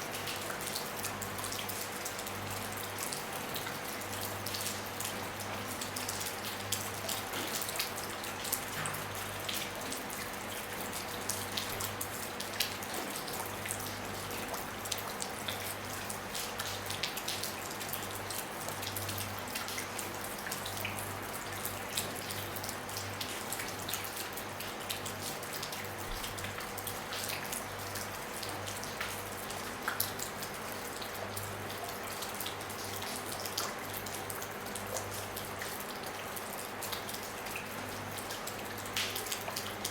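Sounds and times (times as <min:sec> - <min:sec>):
rain patter on a roof: 0:00.0 - 0:39.9.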